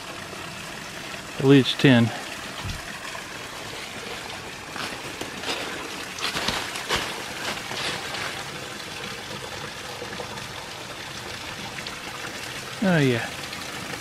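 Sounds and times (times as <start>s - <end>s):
small waterfall splashing: 0.0s - 14.0s.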